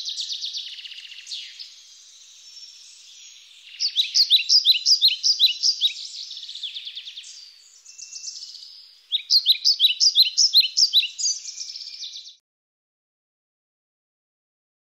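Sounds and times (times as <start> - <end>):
songbird singing: 0.0 - 12.4.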